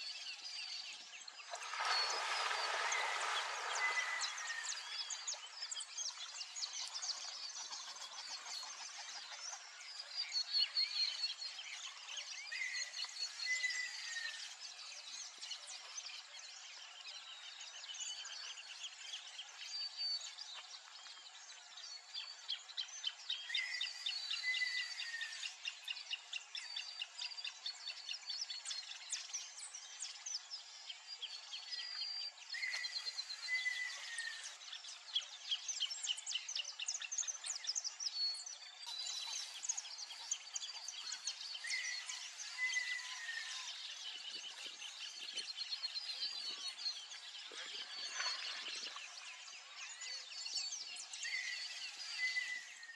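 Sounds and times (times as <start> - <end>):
birds chirping in chorus: 0.0 - 52.9.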